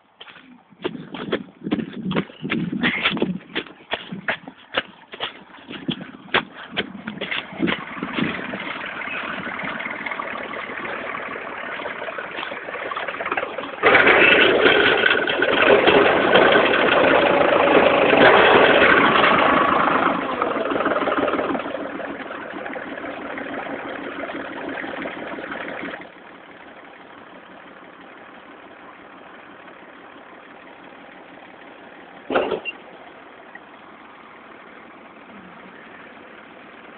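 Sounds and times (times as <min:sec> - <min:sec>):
tractor diesel engine revving: 0:00.3 - 0:36.9.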